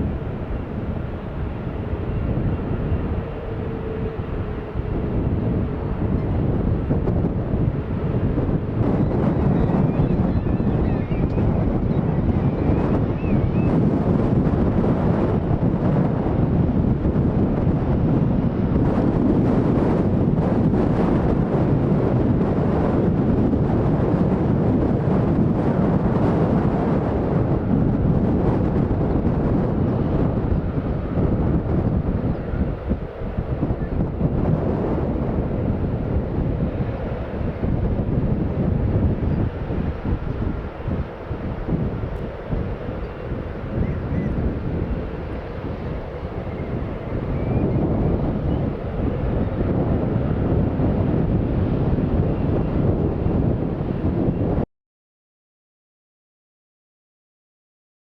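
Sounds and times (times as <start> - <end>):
jet engines rumbling: 0.0 - 54.6
wind buffeting microphone: 0.0 - 54.7.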